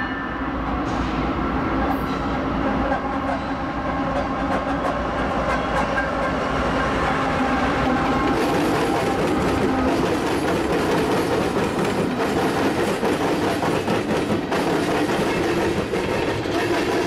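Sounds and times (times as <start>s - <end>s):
diesel locomotive engines droning: 0.0s - 17.0s
train wheels rumbling on rails: 0.7s - 17.0s.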